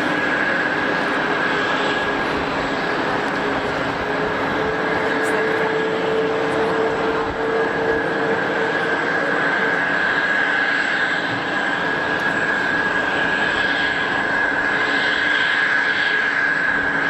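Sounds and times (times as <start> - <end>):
high-pitched engine whine: 0.0 - 17.0
jet engines roaring: 0.0 - 17.0.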